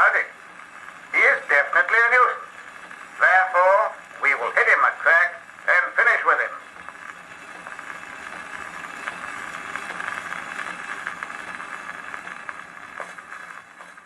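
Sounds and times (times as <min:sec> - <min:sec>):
record surface hiss: 0:00.0 - 0:14.0
crackles and clicks: 0:00.2 - 0:14.0.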